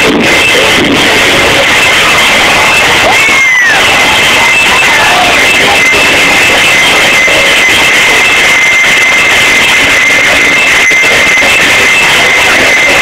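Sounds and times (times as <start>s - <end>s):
loud distorted dance music: 0.0s - 13.0s.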